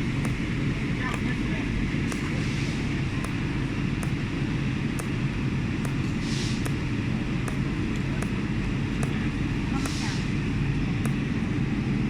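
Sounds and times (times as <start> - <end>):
spot welder ticking: 0.0 - 12.0.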